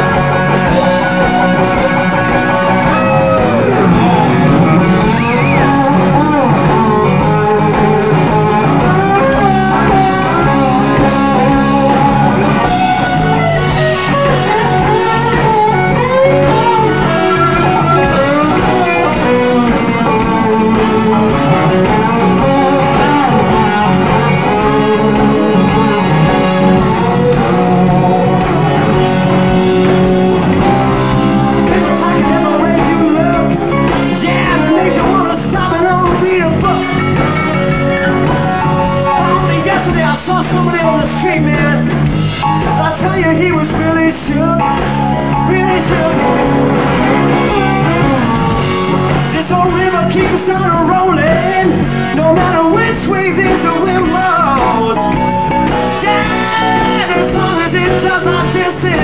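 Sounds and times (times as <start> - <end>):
lead guitar solo: 0.0 - 52.9, 53.6 - 59.0
blues-rock band playing: 0.0 - 59.0.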